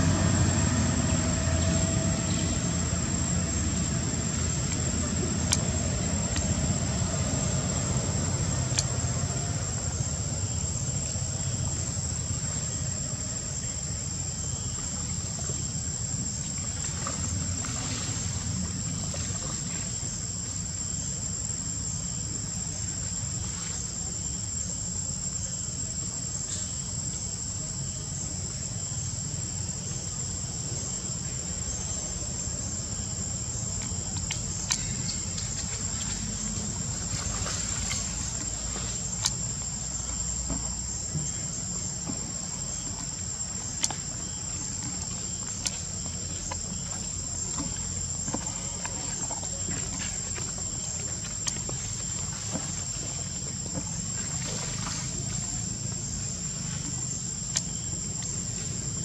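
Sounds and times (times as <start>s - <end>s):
low steady rumble: 0.0s - 59.0s.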